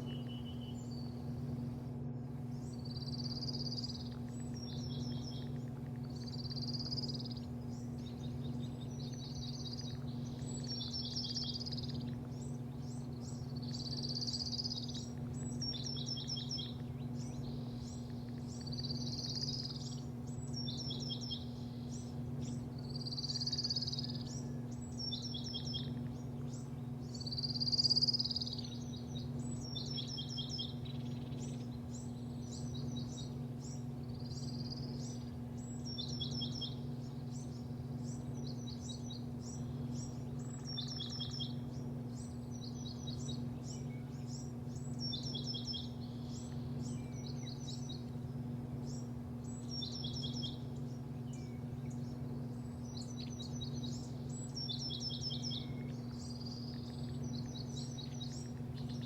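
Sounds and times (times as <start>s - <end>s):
low electrical hum of machinery: 0.0s - 59.0s
small birds chirping: 0.0s - 59.0s.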